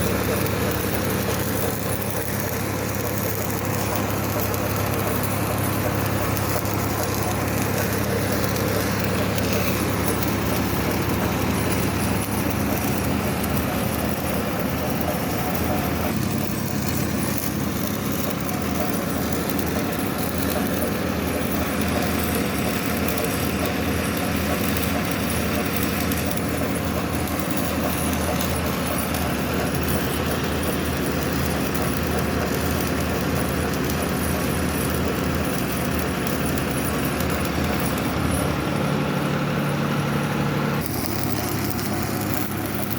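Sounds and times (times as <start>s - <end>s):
low machine hum: 0.0s - 42.9s
welding arc crackling and hissing: 0.0s - 42.9s.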